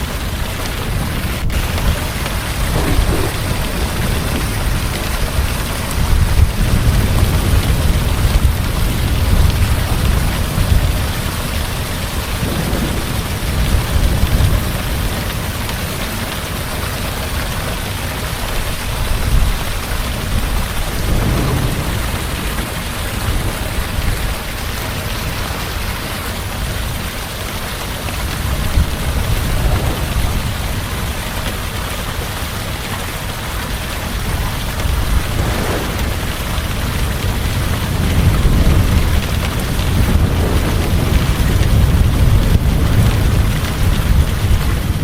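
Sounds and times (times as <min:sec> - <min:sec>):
heavy rain falling: 0:00.0 - 0:45.0
low rolling thunder: 0:00.0 - 0:45.0.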